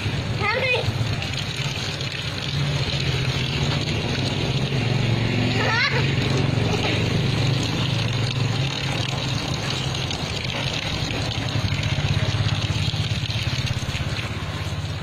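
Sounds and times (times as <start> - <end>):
hose water splashing on concrete: 0.0 - 15.0.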